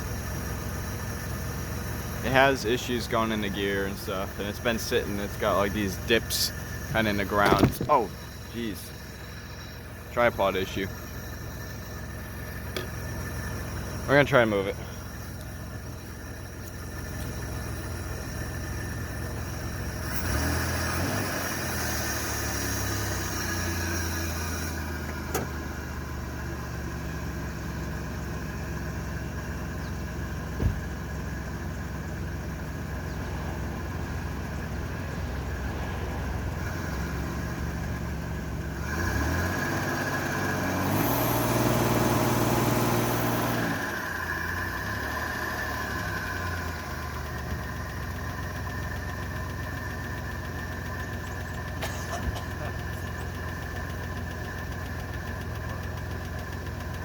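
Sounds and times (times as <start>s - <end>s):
van engine idling and revving: 0.0s - 57.0s.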